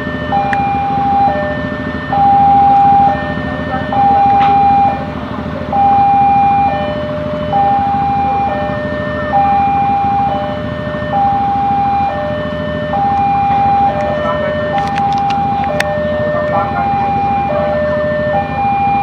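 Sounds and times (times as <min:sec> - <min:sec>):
low traffic rumble: 0:00.0 - 0:19.0
two-tone level-crossing alarm: 0:00.0 - 0:19.0.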